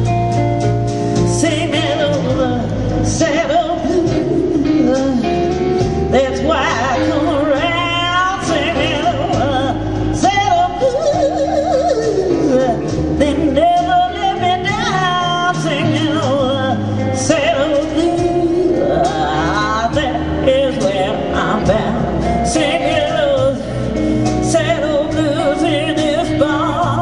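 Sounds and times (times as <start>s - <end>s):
blues band playing: 0.0s - 27.0s
woman singing wordless vocals: 1.2s - 27.0s.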